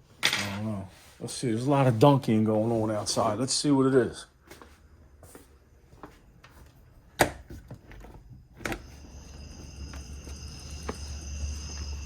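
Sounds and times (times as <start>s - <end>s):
crickets chirping: 1.3s - 12.0s.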